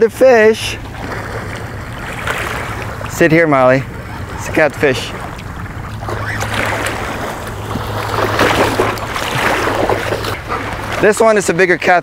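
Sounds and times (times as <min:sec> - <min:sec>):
steady low hum: 0:00.0 - 0:11.9
small waves washing on sand: 0:00.6 - 0:12.0
fish thrashing in shallow water: 0:00.8 - 0:12.0.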